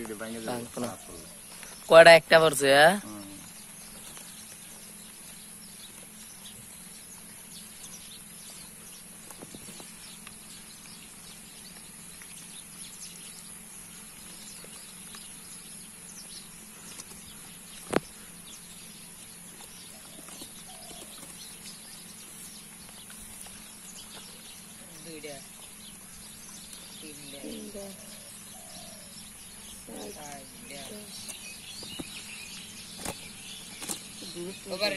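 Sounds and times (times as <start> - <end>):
small chirps and ticks: 0.0 - 34.9.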